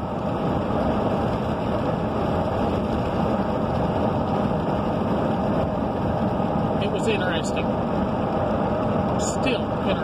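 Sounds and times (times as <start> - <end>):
vehicle engine rumble in cab: 0.0 - 10.0.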